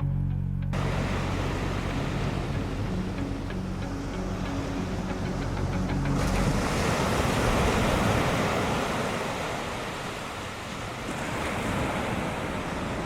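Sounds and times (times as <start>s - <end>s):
waves breaking on beach: 0.8s - 13.0s.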